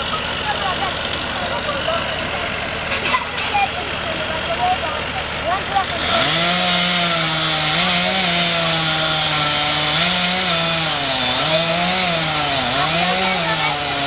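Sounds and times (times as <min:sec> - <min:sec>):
chainsaw cutting through tree: 0:00.0 - 0:14.0.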